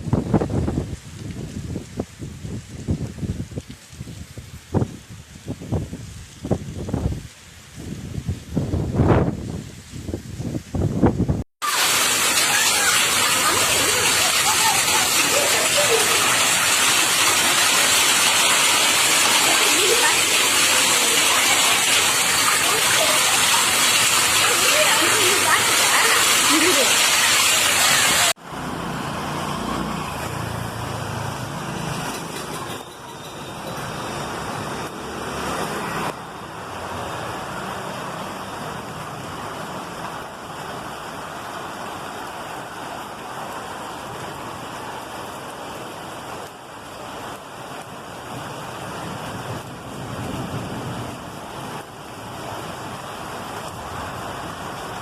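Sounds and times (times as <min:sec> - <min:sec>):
rain hissing: 0:00.0 - 0:55.0
wind gusts: 0:00.0 - 0:55.0.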